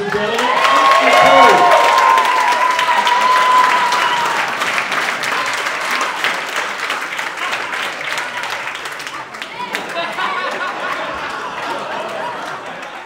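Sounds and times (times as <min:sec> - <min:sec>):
audience applauding and cheering: 0:00.0 - 0:13.0.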